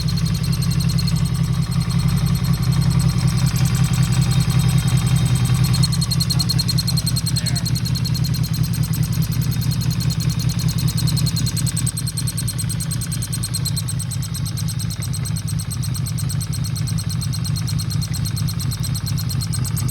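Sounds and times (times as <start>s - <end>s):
motorcycle engine idling: 0.0s - 19.9s.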